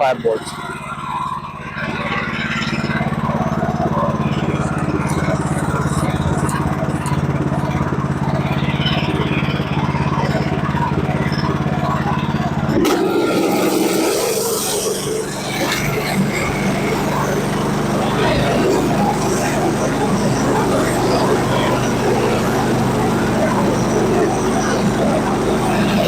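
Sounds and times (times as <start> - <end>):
rough noisy engine sound: 0.0 - 26.0
sawmill engine running under load: 0.0 - 26.0
saw cutting through log: 1.6 - 26.0.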